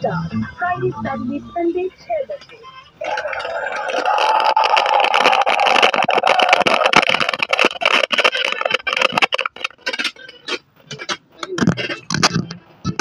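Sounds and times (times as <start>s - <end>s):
crackling tv speaker audio: 0.0s - 13.0s.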